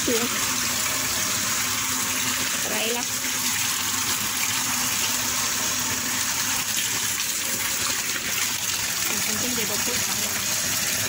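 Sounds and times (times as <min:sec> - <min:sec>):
water gushing into washing machine: 0:00.0 - 0:11.0.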